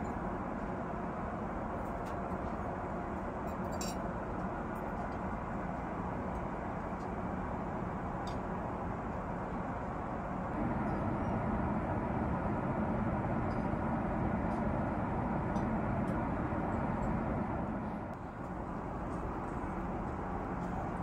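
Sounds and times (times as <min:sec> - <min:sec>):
airplane cabin hum: 0:00.0 - 0:21.0.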